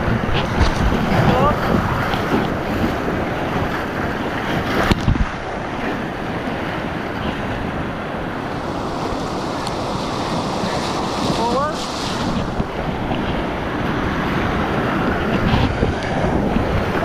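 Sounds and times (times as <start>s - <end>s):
whitewater rapids rushing: 0.0s - 17.0s
wind noise on microphone: 0.0s - 17.0s.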